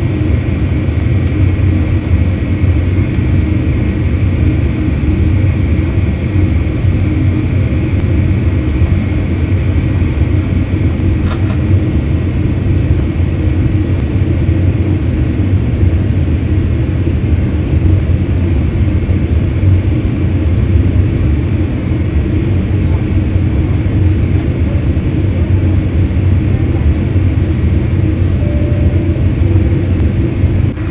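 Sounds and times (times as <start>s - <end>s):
faint whine: 0.0s - 30.9s
jet engine cabin rumble: 0.0s - 30.9s.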